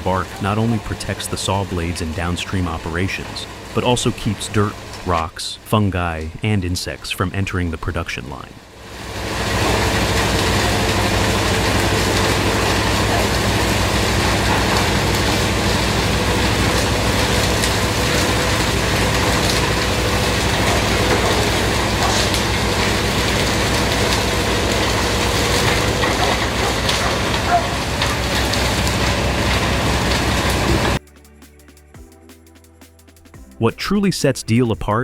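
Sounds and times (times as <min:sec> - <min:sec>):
log debarker mechanical drone: 0:00.0 - 0:35.0.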